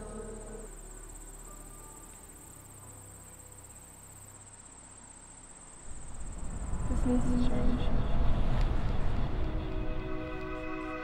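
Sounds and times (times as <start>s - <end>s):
crickets chirping: 0.0s - 11.0s
faint low hum: 0.0s - 11.0s.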